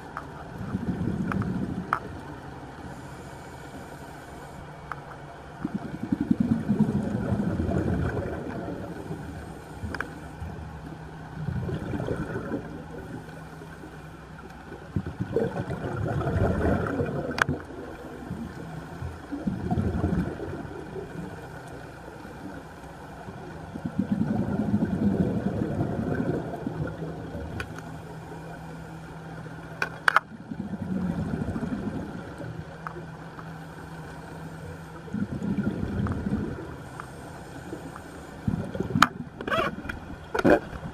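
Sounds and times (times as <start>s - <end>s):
underwater exhaled bubbles gurgling: 0.0s - 2.6s, 5.5s - 33.2s, 34.0s - 40.9s.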